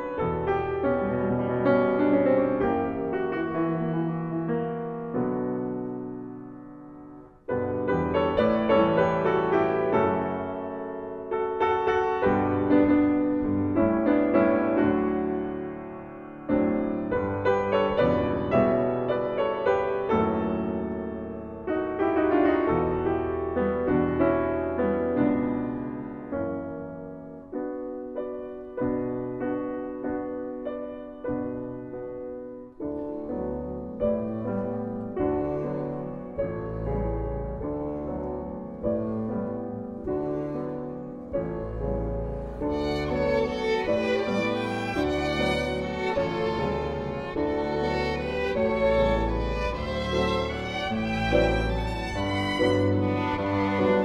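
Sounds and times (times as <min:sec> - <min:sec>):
classical piano music: 0:00.0 - 0:54.0.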